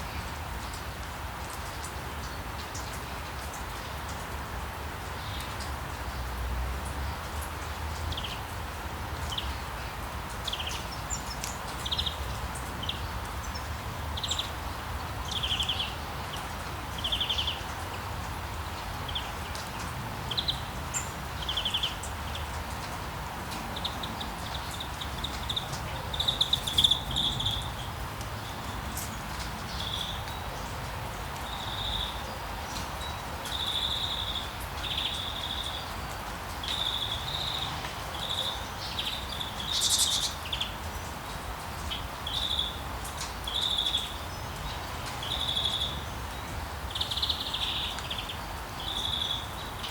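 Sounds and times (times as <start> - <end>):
rain hiss: 0.0 - 49.9
small birds chirping: 9.1 - 49.9.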